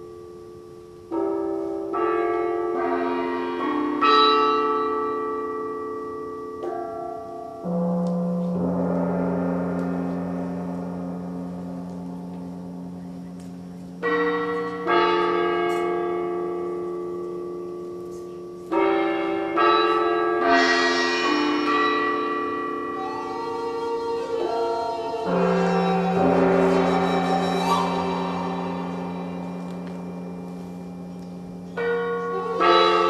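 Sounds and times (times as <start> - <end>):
gongs ringing: 0.0 - 33.0.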